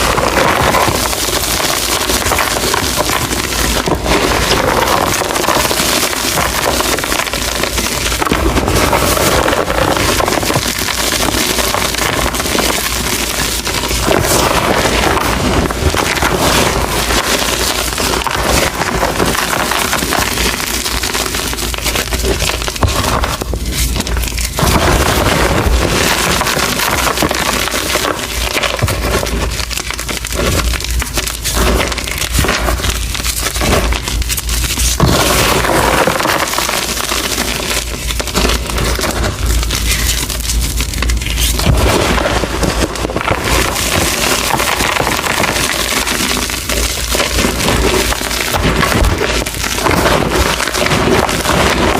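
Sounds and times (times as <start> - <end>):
chalk crushing and crumbling: 0.0 - 51.9.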